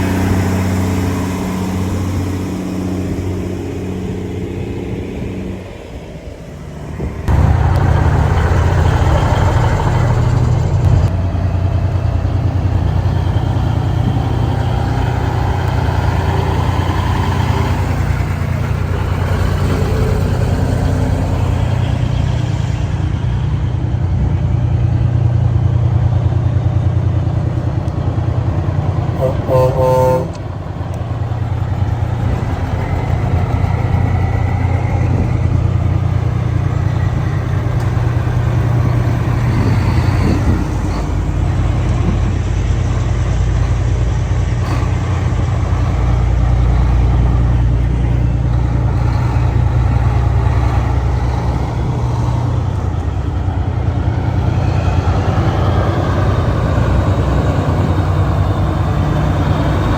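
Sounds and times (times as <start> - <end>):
truck engine driving by: 0.0 - 59.9.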